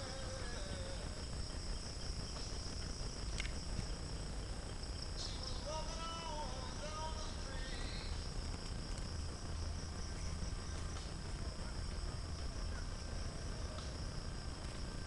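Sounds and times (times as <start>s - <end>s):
high-pitched insect chorus: 0.0s - 15.0s
low wind rumble: 0.0s - 15.0s.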